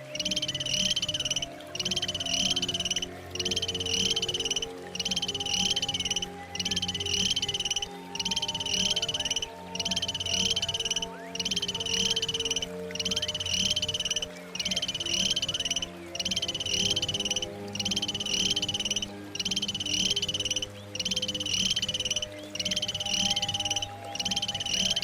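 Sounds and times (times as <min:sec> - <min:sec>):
high-pitched pulsed trill call: 0:00.0 - 0:25.0.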